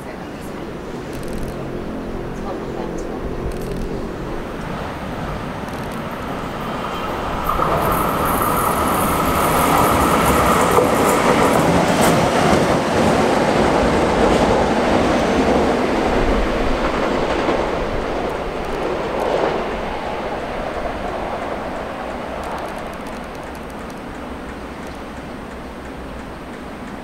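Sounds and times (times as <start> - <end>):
train wheels rumbling on rail: 0.0 - 27.0
locomotive whine: 0.2 - 26.5.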